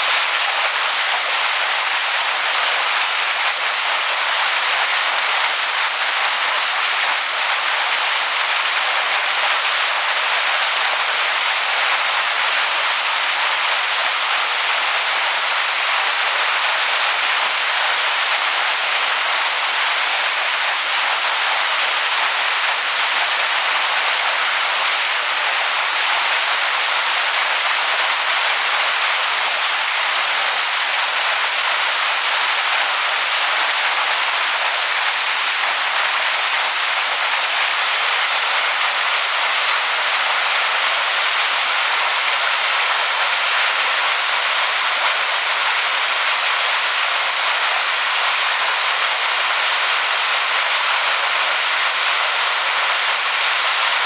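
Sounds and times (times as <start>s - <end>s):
waterfall splashing onto rocks: 0.0s - 54.0s.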